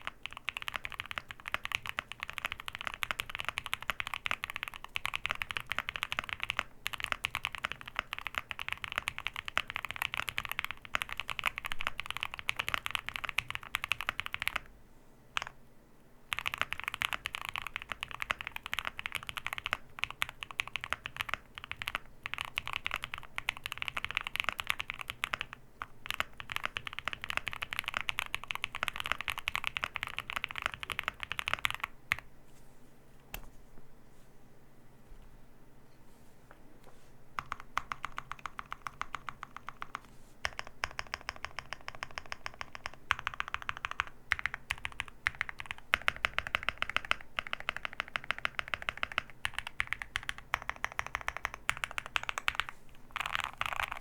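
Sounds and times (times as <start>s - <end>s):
mechanical keyboard typing: 0.0s - 14.7s, 15.4s - 15.6s, 16.3s - 32.2s, 37.4s - 54.0s.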